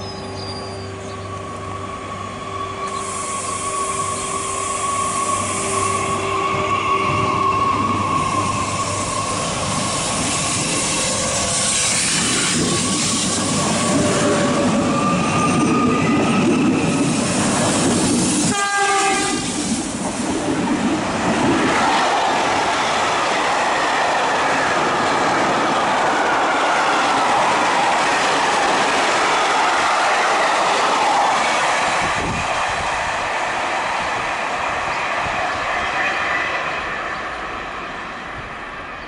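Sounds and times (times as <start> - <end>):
freight train wheels on rails: 0.0 - 39.0.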